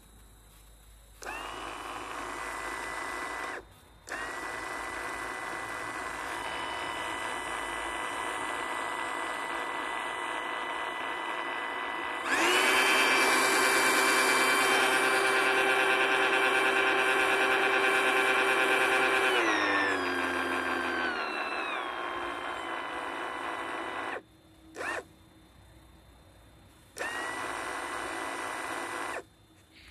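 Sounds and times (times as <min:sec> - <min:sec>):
electric chainsaw motor whining: 0:01.2 - 0:24.2, 0:24.8 - 0:25.1, 0:27.0 - 0:29.3.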